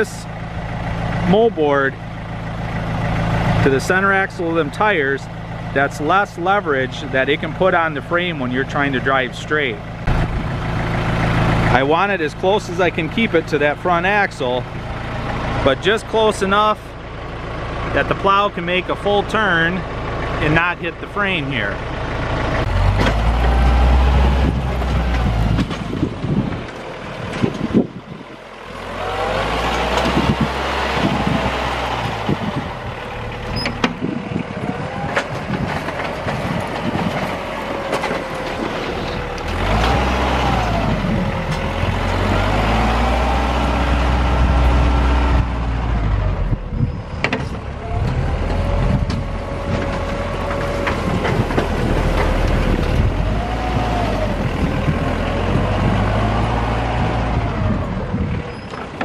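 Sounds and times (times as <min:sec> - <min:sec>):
engine whine: 0:00.0 - 0:59.0
tractor engine running under load: 0:00.0 - 0:59.0.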